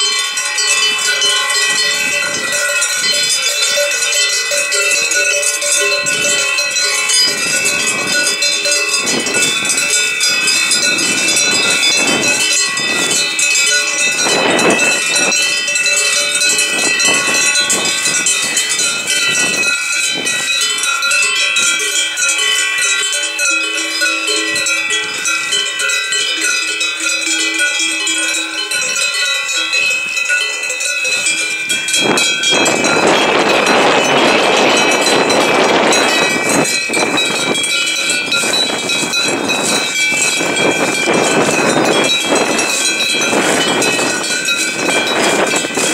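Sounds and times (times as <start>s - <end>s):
cowbells clanging: 0.0s - 45.9s
broad rushing noise: 0.2s - 21.1s, 28.2s - 45.9s.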